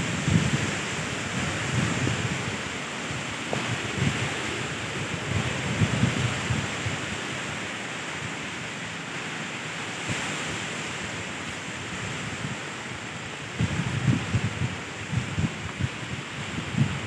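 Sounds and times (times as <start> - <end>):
wind buffeting microphone: 0.0 - 8.8, 9.8 - 17.0
distant surf: 0.0 - 17.0
wind hissing: 0.0 - 17.0.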